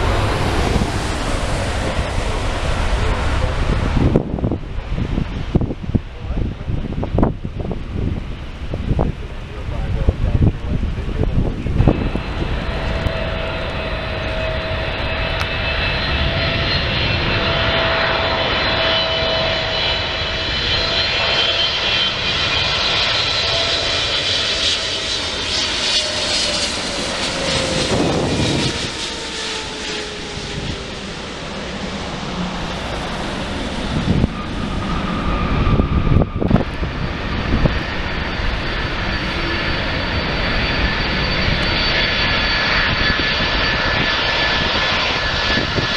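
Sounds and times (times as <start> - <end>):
jet airliner passing: 0.0 - 45.9.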